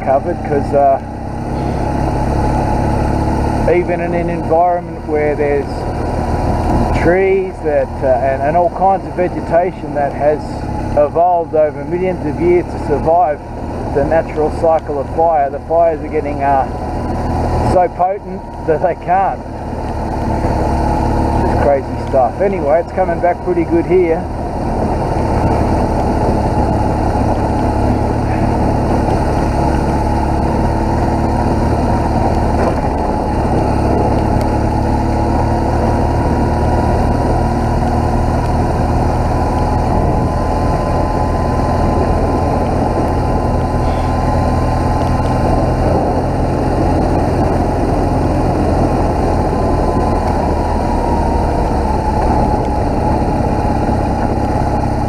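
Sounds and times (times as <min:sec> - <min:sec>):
motorcycle engine running: 0:00.0 - 0:55.0
road and wind noise: 0:00.0 - 0:55.0.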